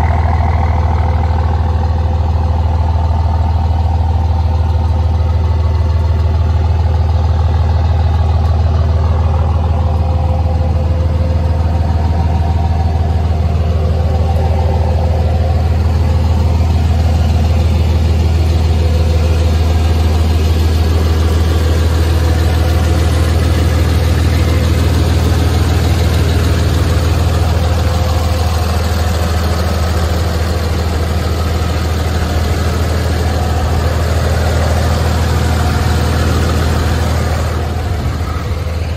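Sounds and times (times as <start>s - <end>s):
pickup engine idling: 0.0s - 38.9s.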